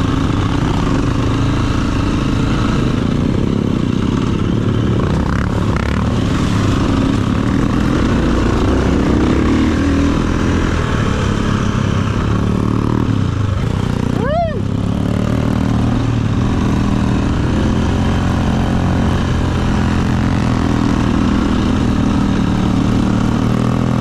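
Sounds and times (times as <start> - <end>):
dirt bike engine revving: 0.0 - 24.0
other motorbike engines: 0.0 - 24.0.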